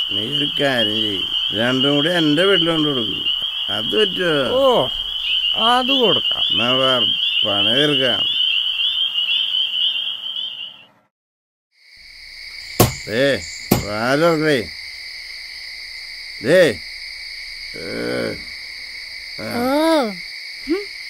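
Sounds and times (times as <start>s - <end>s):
wavering calls: 0.0s - 11.0s, 12.0s - 21.0s.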